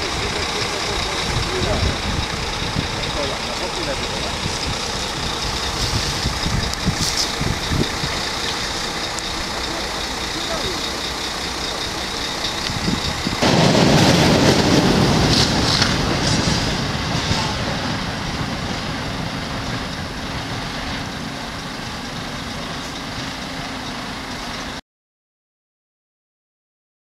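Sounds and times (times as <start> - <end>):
truck diesel engine running: 0.0 - 24.8.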